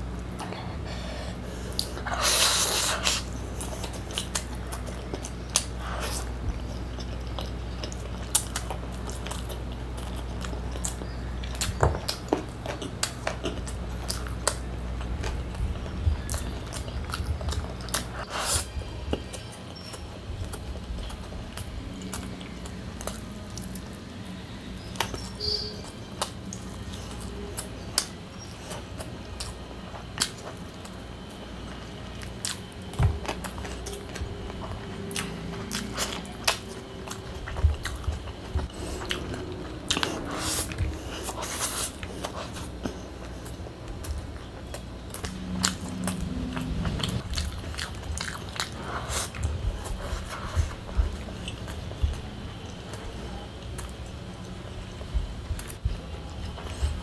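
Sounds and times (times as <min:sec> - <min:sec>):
close chewing and biting: 0:00.1 - 0:57.0.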